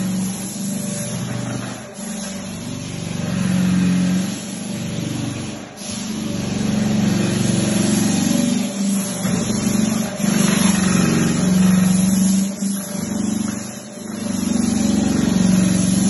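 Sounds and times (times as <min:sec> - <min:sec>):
floor sanding machine humming: 0:00.0 - 0:16.0.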